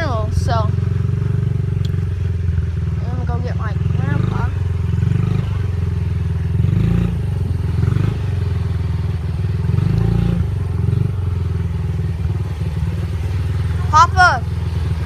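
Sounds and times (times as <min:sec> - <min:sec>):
dirt bike engine: 0:00.0 - 0:15.0.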